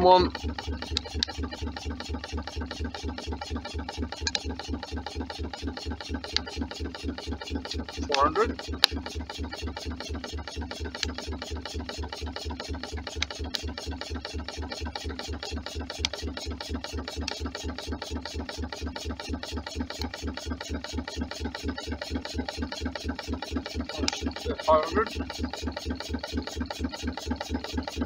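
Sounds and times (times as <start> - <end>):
stirling engine running: 0.0 - 28.0.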